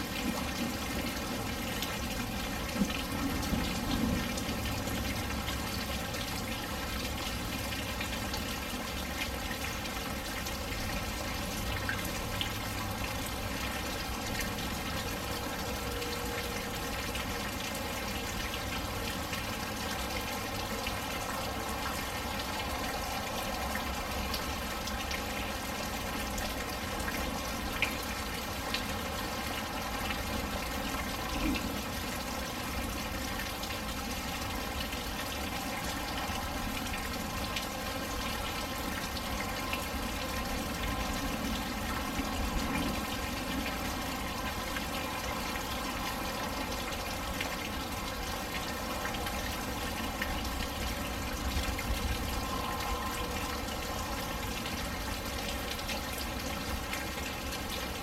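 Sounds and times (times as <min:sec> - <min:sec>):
rain falling and splashing: 0:00.0 - 0:58.0.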